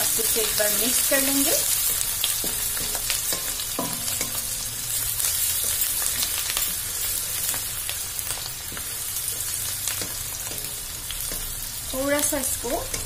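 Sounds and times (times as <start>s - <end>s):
onions sizzling in oil: 0.0s - 13.0s
spatula scraping a pan: 0.2s - 11.8s.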